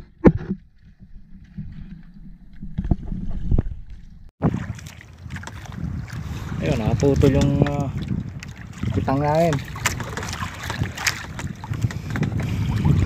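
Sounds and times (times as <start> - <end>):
sea water moving around boat: 0.0 - 13.0
wind on microphone: 1.0 - 13.0.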